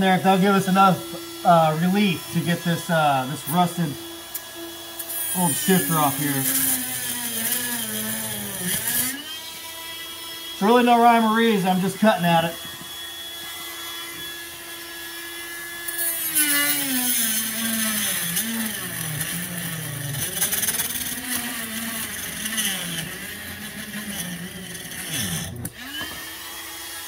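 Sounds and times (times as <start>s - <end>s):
rotary tool whining: 0.0s - 27.0s
gritty rasp of cutting plastic: 0.1s - 26.4s.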